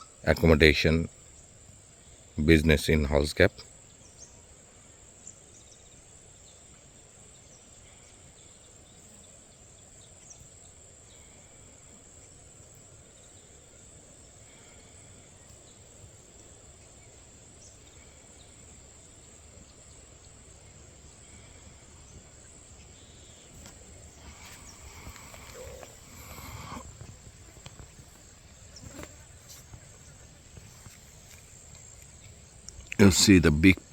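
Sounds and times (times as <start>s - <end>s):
insects chirring: 0.0s - 33.9s.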